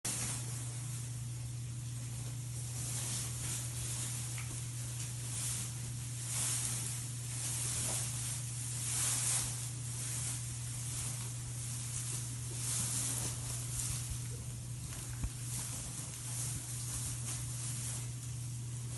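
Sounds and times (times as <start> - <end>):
steady low hum: 0.1 - 18.9.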